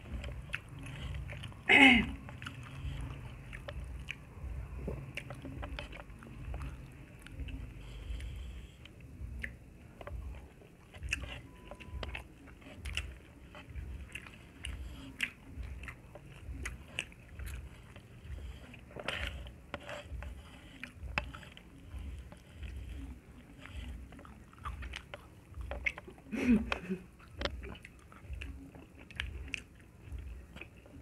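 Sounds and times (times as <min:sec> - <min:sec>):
close chewing: 0:00.0 - 0:31.0.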